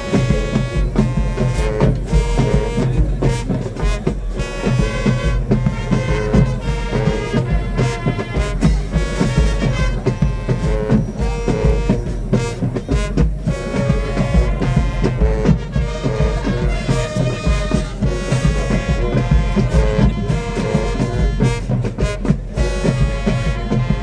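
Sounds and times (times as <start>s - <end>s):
brass horns holding chords: 0.0s - 24.0s
steady drum beat: 0.0s - 24.0s.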